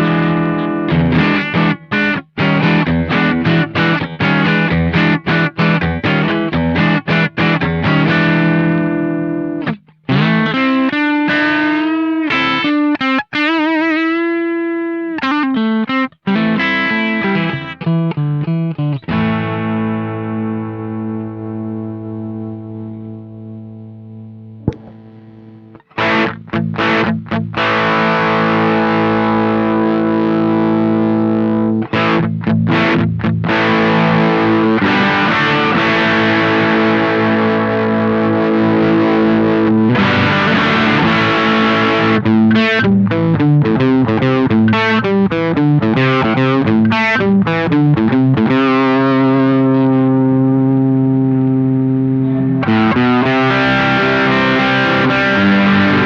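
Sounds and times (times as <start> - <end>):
distorted electric guitar chords: 0.0 - 56.0.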